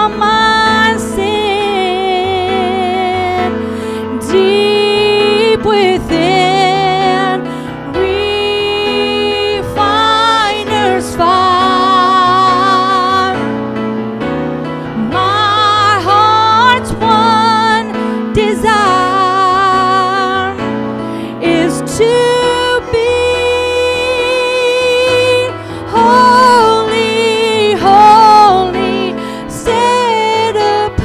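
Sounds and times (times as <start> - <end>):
woman singing: 0.0 - 13.6, 15.0 - 31.0
keyboard piano chords: 0.0 - 31.0.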